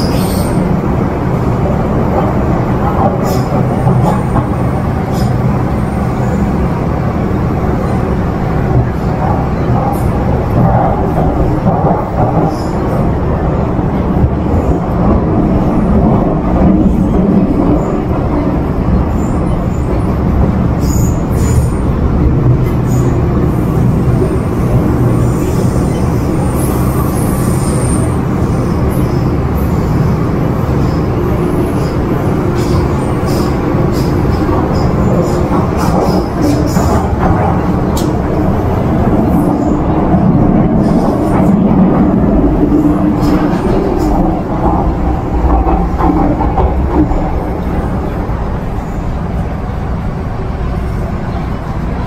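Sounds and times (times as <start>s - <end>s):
train rumbling in tunnel: 0.0s - 52.0s.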